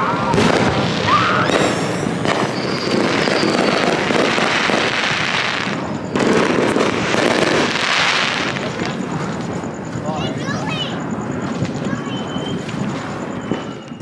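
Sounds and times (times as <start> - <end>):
fireworks bursting with crackle: 0.0 - 14.0.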